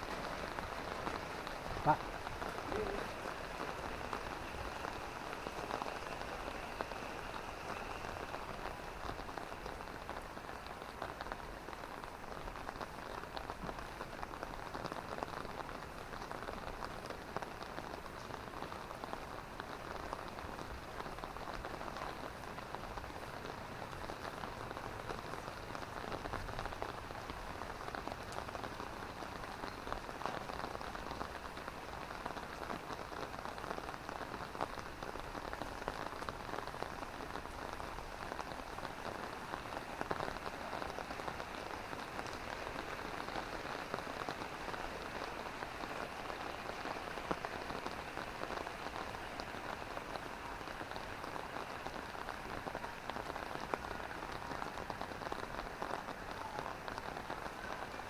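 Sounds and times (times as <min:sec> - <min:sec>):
drizzling rain: 0:00.0 - 0:58.0.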